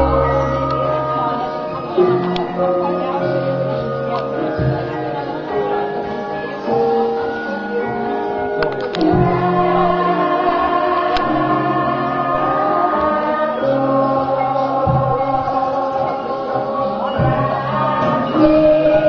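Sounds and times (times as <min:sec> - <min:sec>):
gamelan gongs and metallophones: 0:00.0 - 0:19.0
voices singing: 0:00.0 - 0:19.0.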